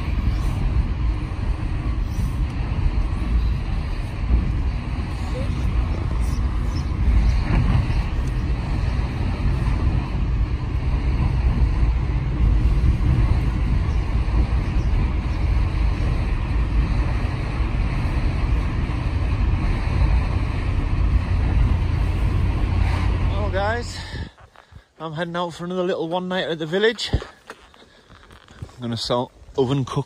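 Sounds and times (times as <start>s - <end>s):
car engine and road noise: 0.0s - 24.8s
tyres on wet road: 0.0s - 24.8s.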